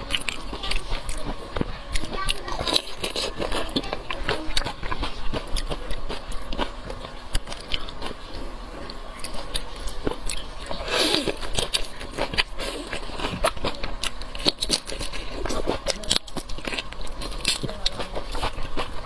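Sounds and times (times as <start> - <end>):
person chewing and crunching seafood: 0.0 - 19.0.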